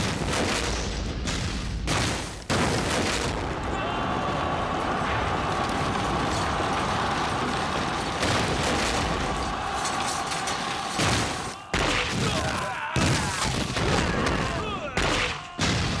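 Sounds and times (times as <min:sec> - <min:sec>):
battle din of explosions: 0:00.0 - 0:16.0
loud blasts: 0:00.0 - 0:16.0.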